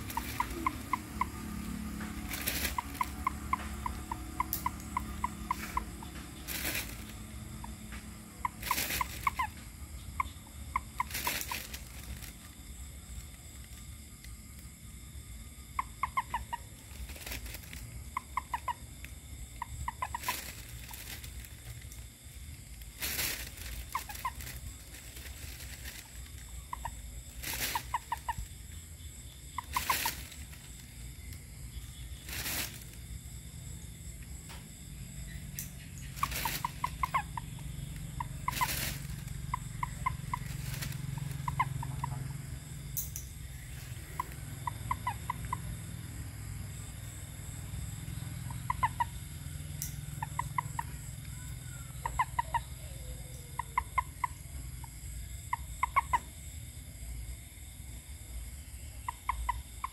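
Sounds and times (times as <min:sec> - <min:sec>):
frogs croaking: 0:00.0 - 0:59.9.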